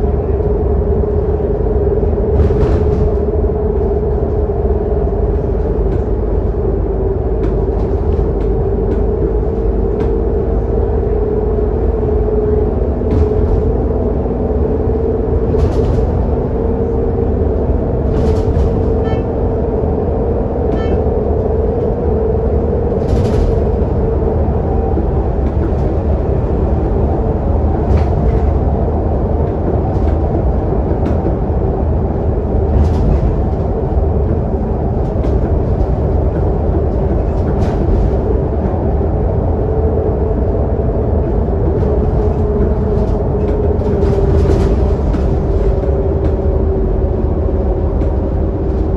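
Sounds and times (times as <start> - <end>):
bus diesel engine and road noise: 0.0 - 48.9.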